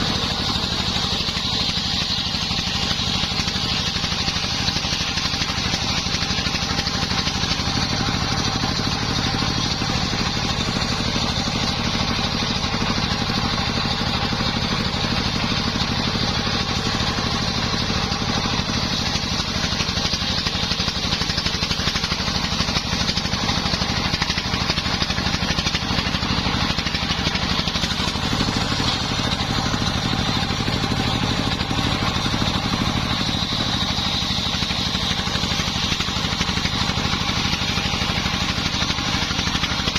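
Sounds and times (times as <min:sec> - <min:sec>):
small engine driving circular saw: 0:00.0 - 0:39.9.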